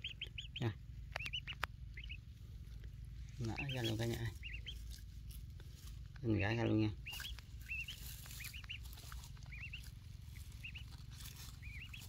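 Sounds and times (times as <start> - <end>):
ducklings peeping: 0.0 - 12.0
low steady rumble: 0.0 - 12.0.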